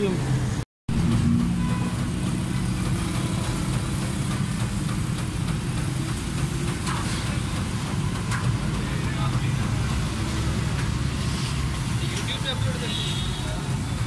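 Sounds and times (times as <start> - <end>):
vehicle engine idling: 0.9 - 14.0.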